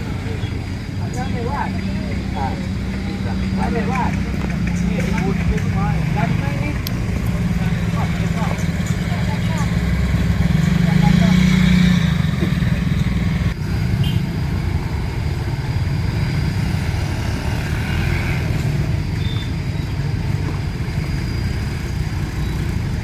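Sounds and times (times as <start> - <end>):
traffic noise: 0.0 - 23.0
vehicle engine running: 0.0 - 23.0.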